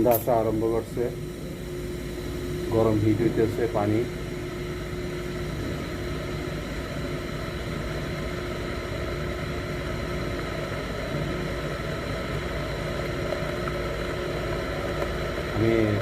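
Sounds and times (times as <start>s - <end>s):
electric kettle heating water: 0.0s - 16.0s.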